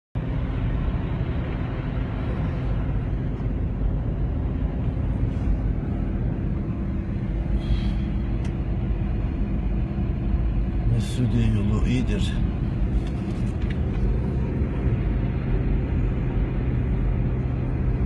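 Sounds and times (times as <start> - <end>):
car engine and tyres rumbling: 0.1 - 18.0.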